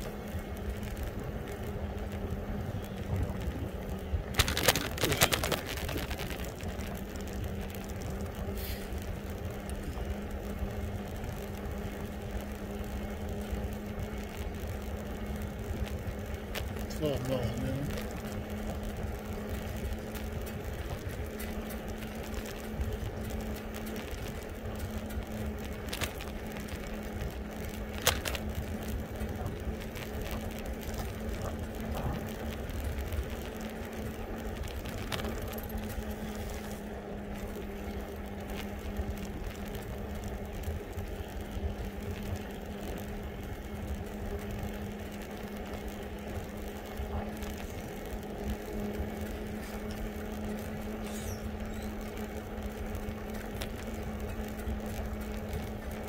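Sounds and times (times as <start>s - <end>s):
road noise: 0.0s - 56.0s
steady low hum: 0.0s - 56.0s
wind rumble on microphone: 0.0s - 56.0s.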